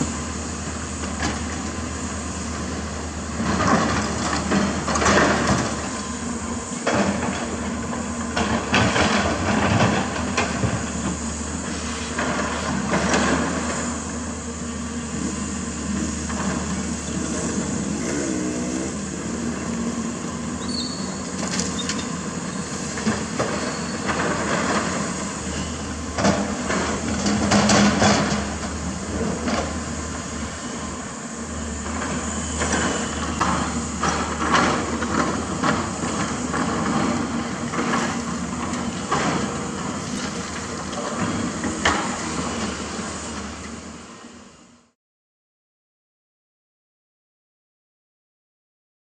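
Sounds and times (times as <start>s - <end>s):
diesel engine running: 0.0s - 44.2s.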